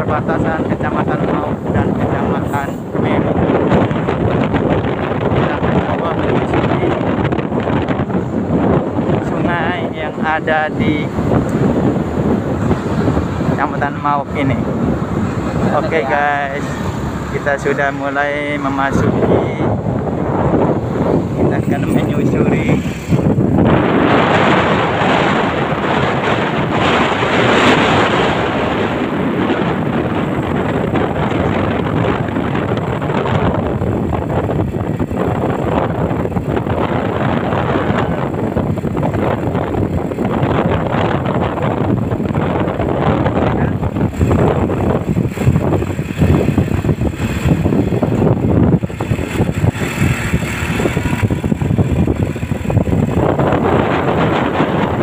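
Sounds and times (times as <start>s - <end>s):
vehicle engine rumble: 0.0s - 55.0s
wind rushing over microphone: 0.0s - 55.0s.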